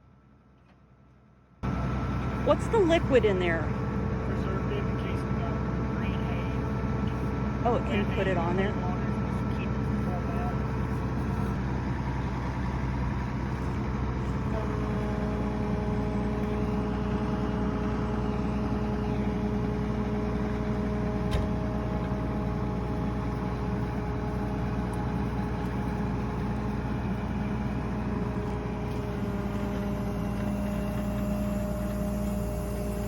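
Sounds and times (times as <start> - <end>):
tractor engine running: 0.1 - 33.0
steady whine: 1.6 - 33.0.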